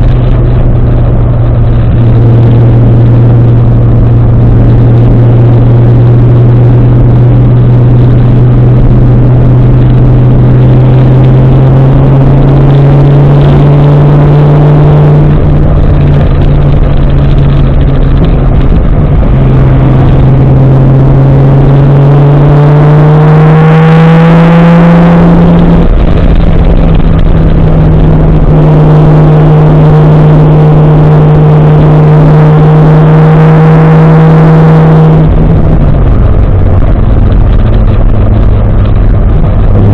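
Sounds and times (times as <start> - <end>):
car engine running under load: 0.0 - 39.9.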